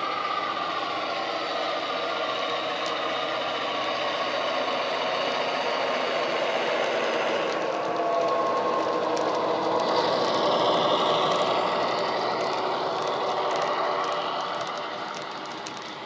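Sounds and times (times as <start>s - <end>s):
model train rattle: 0.0s - 16.0s.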